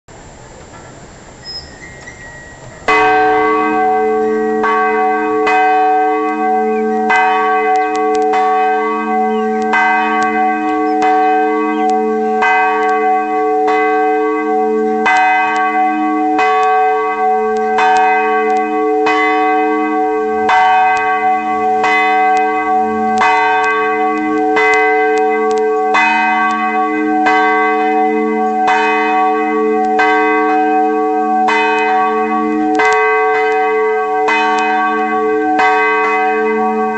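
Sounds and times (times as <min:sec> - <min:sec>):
church bell ringing: 0:02.1 - 0:36.9.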